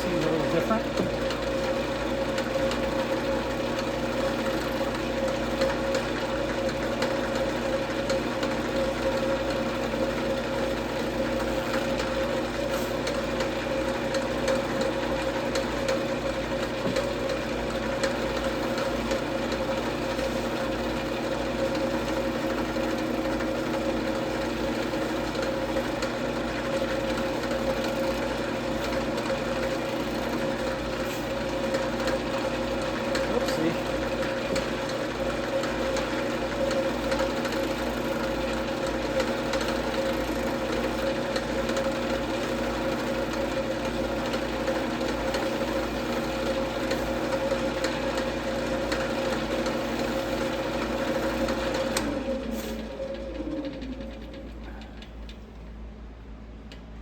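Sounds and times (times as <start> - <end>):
wood lathe motor humming: 0.0 - 55.5.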